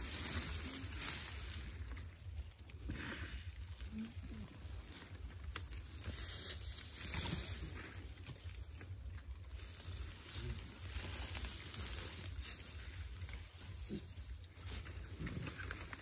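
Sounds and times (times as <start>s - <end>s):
low steady rumble: 0.0s - 16.0s
rustling in dry leaf litter: 0.0s - 16.0s.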